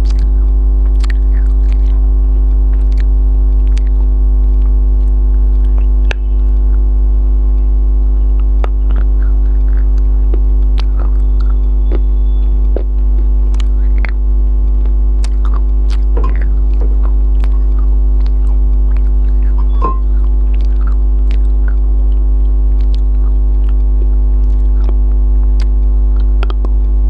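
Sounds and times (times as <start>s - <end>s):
eating clicks and smacks: 0.0s - 6.9s, 7.5s - 27.0s
electrical mains hum: 0.0s - 27.0s.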